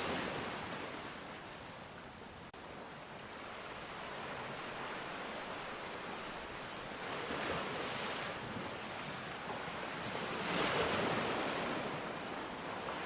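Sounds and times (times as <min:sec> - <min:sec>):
sea waves breaking on beach: 0:00.0 - 0:01.5, 0:02.7 - 0:13.0.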